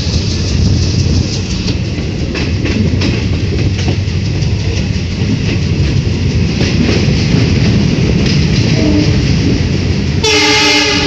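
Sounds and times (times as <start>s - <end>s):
clacks over rail joints: 0.0s - 11.0s
train wheels rumbling on rails: 0.0s - 11.0s.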